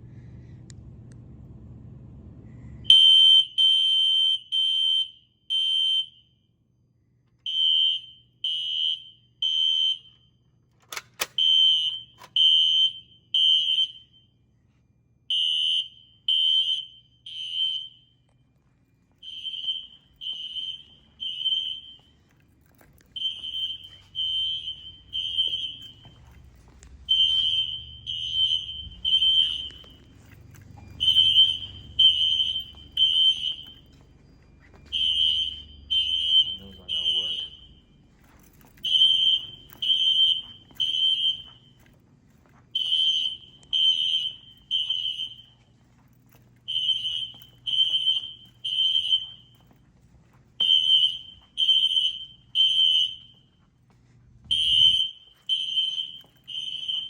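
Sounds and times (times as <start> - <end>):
fire alarm horn blasts: 2.9 - 6.6, 7.4 - 14.5, 15.2 - 18.4, 19.2 - 49.9, 50.5 - 53.7, 54.4 - 57.0.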